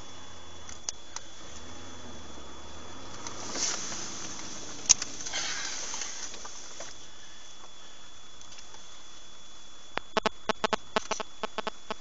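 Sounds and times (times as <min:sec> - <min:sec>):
steady hiss: 0:00.0 - 0:09.7
faint high whine: 0:00.0 - 0:12.0.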